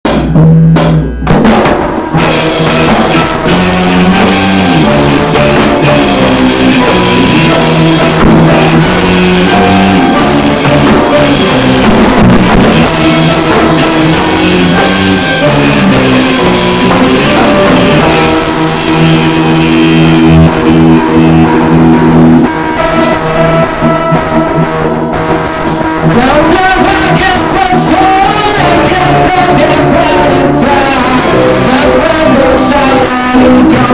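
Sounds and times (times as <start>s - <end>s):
loud rock music: 0.0s - 33.9s.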